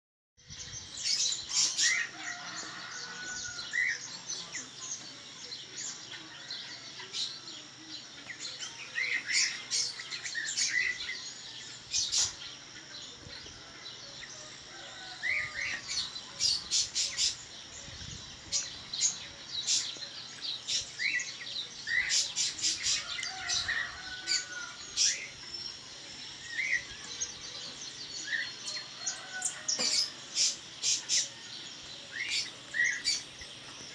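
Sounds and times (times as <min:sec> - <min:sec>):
background bird chorus: 0:00.4 - 0:33.9.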